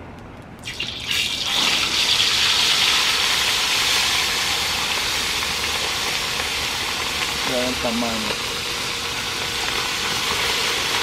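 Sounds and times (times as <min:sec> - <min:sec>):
fish frying in hot oil: 0:00.6 - 0:11.0.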